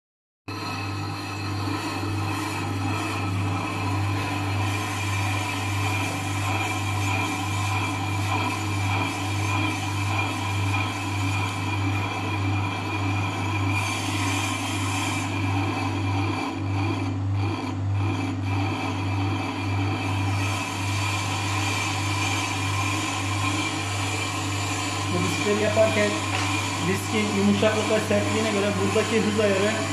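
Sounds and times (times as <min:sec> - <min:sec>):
lathe motor humming: 0:00.5 - 0:29.9.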